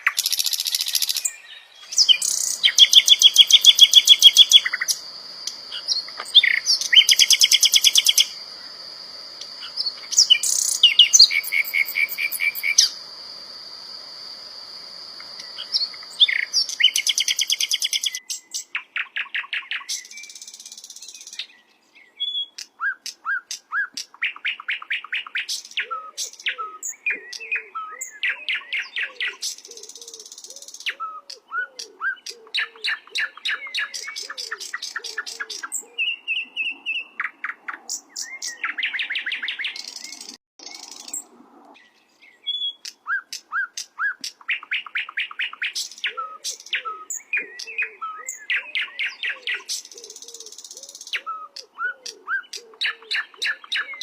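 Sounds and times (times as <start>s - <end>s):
bird singing trills and whistle: 0.0s - 8.8s, 9.5s - 13.0s, 15.3s - 54.0s
bird chirping: 0.0s - 54.0s.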